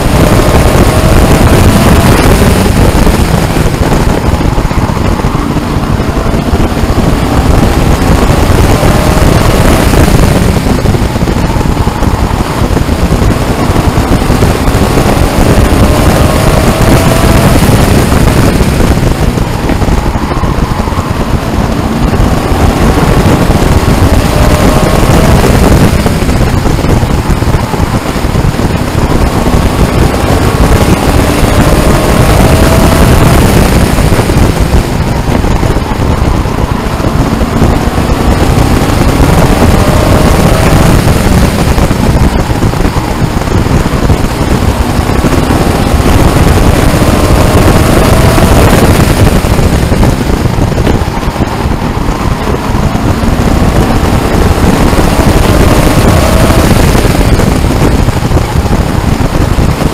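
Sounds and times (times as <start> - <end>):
race truck engine at full throttle: 0.0 - 59.9
wind and road noise: 0.0 - 59.9.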